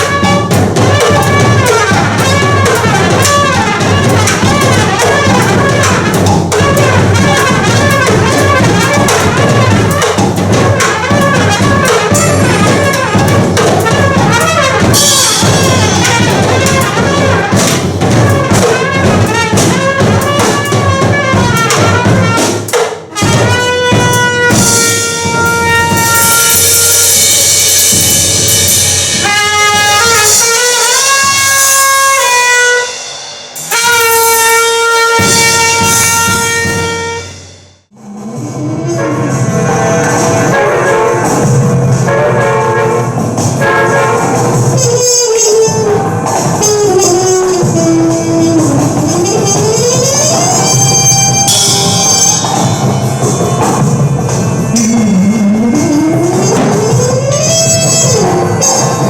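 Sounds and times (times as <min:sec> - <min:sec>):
held brass notes over cymbals: 0:00.0 - 0:59.0
live band with brass and drums: 0:00.0 - 0:59.0.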